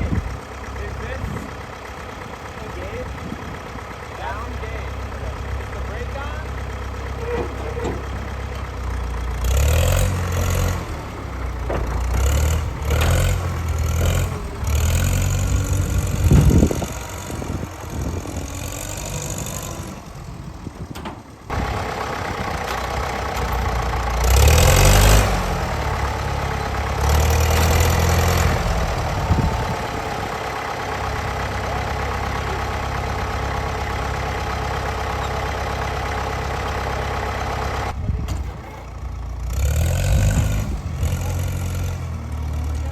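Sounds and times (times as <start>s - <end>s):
tractor engines revving and idling: 0.0s - 42.9s.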